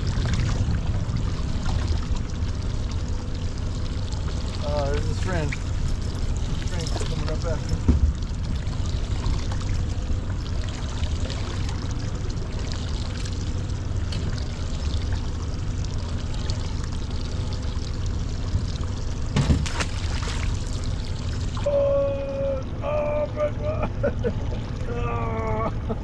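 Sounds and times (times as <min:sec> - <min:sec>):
low rumble: 0:00.0 - 0:26.0
water lapping against boat hull: 0:00.0 - 0:26.0.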